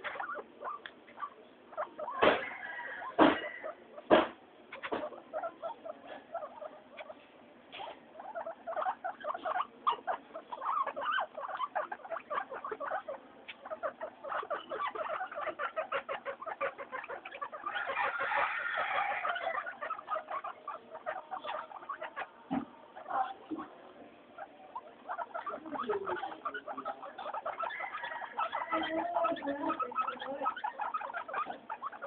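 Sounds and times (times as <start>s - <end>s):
guinea pigs squeaking: 0.0s - 32.0s.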